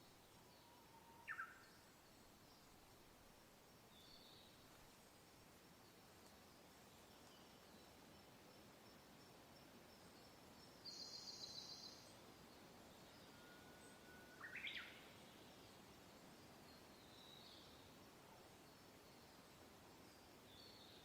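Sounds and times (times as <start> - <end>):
faint wind: 0.0 - 21.0.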